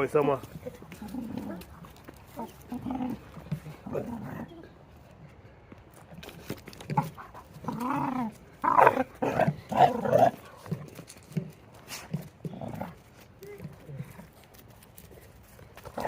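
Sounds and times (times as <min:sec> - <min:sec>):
dogs growling and barking: 0:00.4 - 0:04.8, 0:06.2 - 0:15.1, 0:15.7 - 0:16.0.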